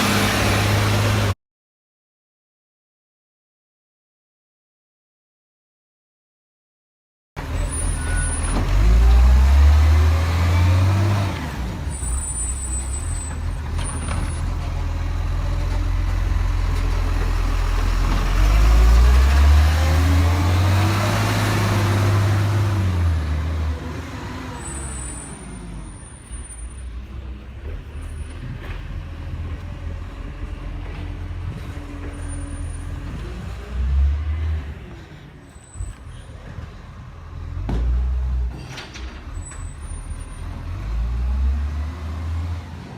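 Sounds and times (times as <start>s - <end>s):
garbage truck engine: 0.0s - 1.4s, 7.4s - 42.9s.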